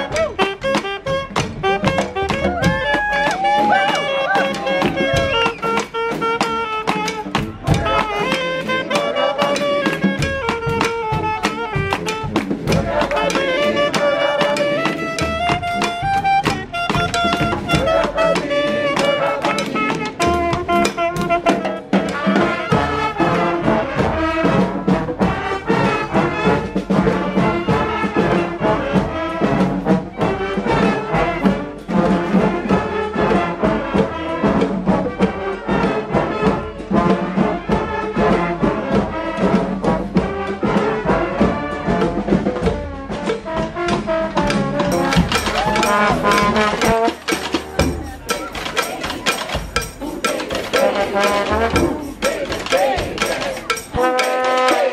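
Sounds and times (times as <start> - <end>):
snare and bass drums: 0.0 - 54.9
street band horn section: 0.0 - 54.9.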